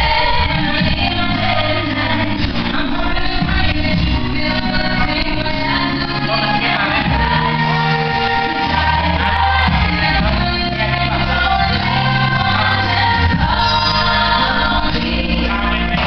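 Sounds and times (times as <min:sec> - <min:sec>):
song with singing and bass: 0:00.0 - 0:16.0.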